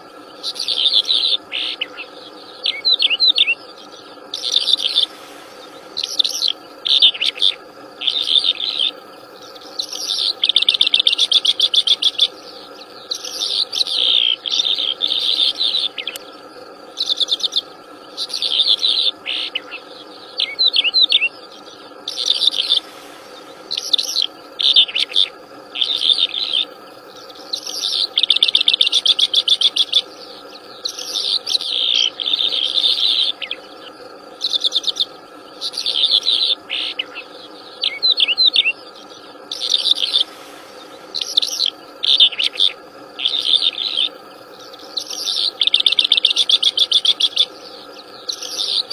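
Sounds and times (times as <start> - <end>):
songbird singing trills: 0.0 - 48.9
steady low hum: 0.0 - 48.9.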